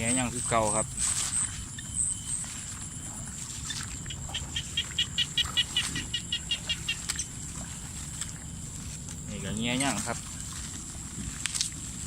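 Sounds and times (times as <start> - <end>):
high-pitched drone: 0.0 - 11.3.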